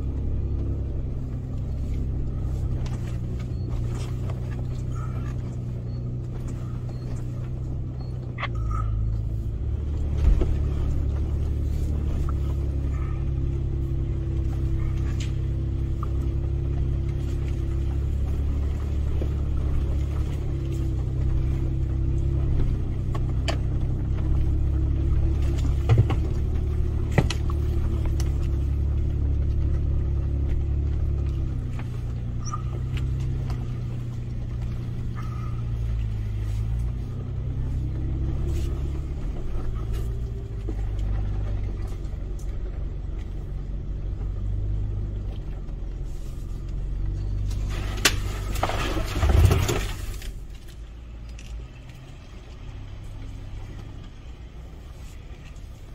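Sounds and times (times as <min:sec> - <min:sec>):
engine rumble inside vehicle: 0:00.0 - 0:55.9.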